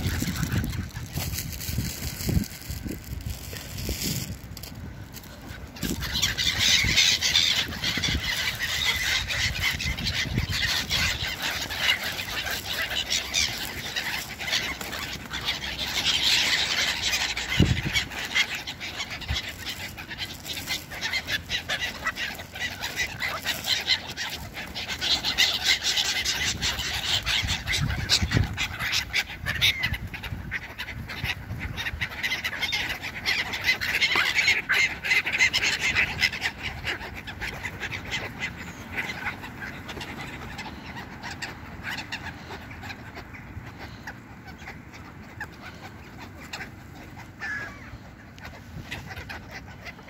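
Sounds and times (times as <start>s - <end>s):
wings fluttering: 0.0s - 44.0s
gulls calling with harsh cries: 0.0s - 50.0s.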